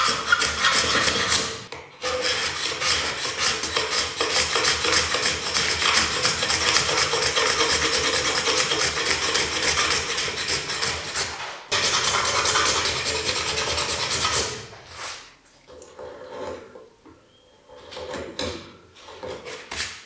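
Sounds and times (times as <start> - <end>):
blade scraping wood: 0.0 - 15.3, 17.6 - 20.0.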